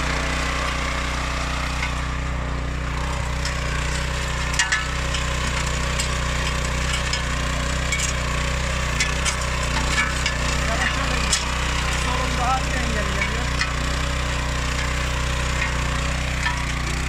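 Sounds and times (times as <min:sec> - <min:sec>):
motor hoe engine running: 0:00.0 - 0:17.0.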